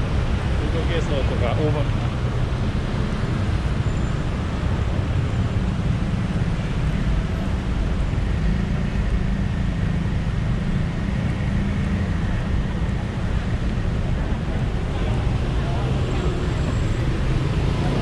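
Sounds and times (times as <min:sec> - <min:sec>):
city road traffic rumble: 0:00.0 - 0:18.0.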